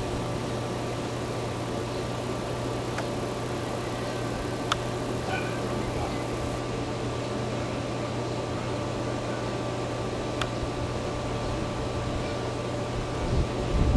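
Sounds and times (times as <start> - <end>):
constant hiss: 0.0 - 13.9
mechanical hum: 0.0 - 13.9.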